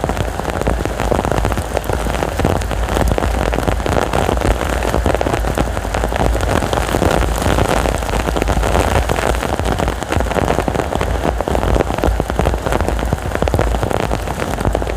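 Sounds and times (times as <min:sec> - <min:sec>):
heavy rain pouring: 0:00.0 - 0:14.9
strong wind: 0:00.0 - 0:14.9.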